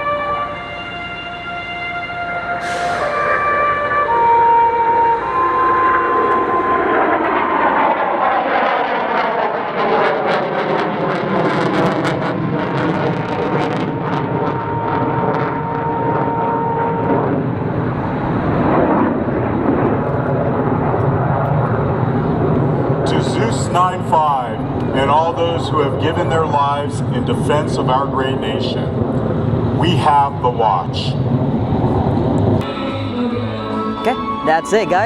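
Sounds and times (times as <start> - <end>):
jet engine roar: 0.0 - 32.6
steady jet whine: 0.0 - 35.0.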